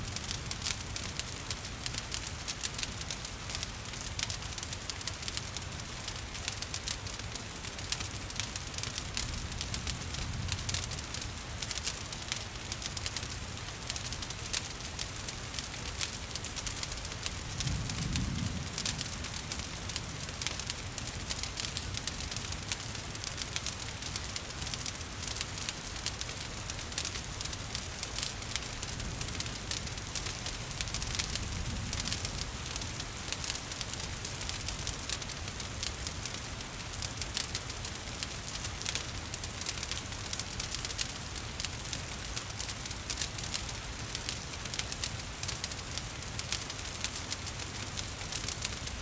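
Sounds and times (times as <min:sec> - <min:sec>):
wood fire crackling and popping: 0:00.0 - 0:49.0
rain hissing: 0:09.4 - 0:49.0.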